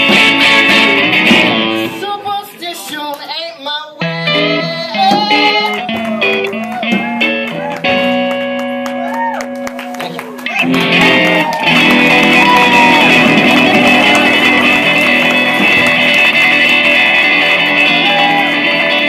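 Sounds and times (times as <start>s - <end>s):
acoustic band music with guitar: 0.0s - 19.0s.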